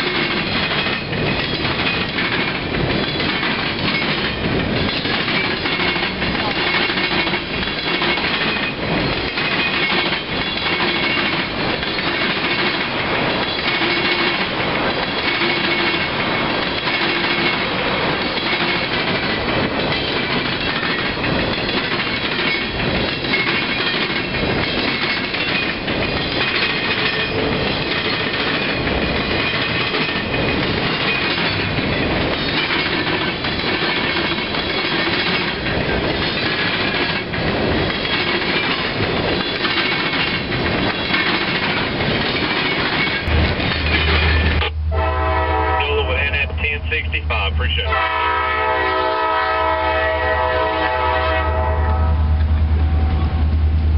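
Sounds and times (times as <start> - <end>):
wheels clacking over rail joints: 0.0 - 44.7
steel wheels rumbling on rails: 0.0 - 53.9.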